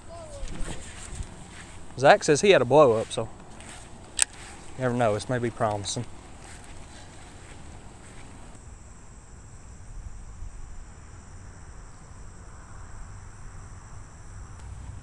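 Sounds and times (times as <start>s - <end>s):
insects trilling: 0.0s - 15.0s
low steady rumble: 0.0s - 15.0s.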